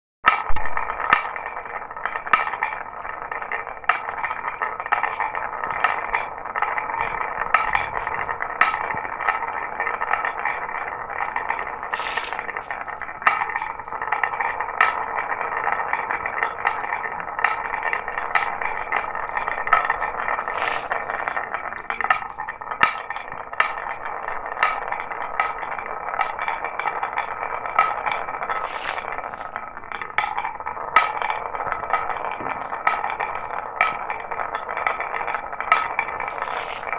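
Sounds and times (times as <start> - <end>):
marbles rolling down track: 0.3 - 36.9.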